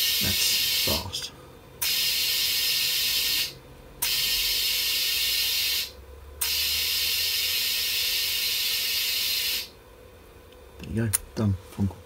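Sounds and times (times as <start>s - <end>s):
compressed air hissing: 0.0s - 9.7s.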